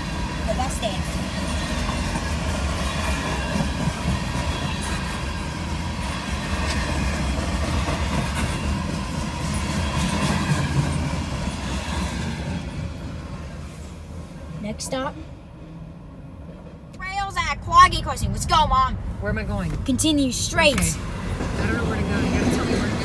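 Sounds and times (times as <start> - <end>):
diesel locomotives rumbling: 0.0 - 23.0.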